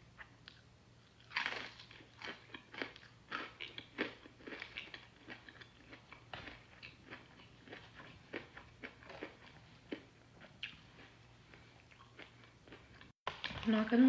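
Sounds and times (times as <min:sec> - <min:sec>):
person chewing crunchy food: 0:00.1 - 0:13.6.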